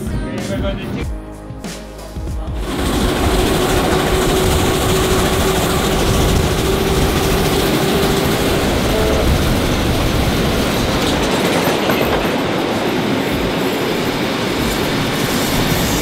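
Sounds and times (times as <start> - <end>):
train wheels rumbling on rails: 2.5 - 16.0.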